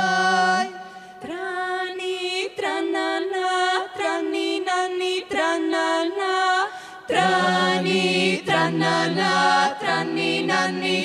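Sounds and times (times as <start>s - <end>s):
women singing a cappella: 0.0s - 11.0s.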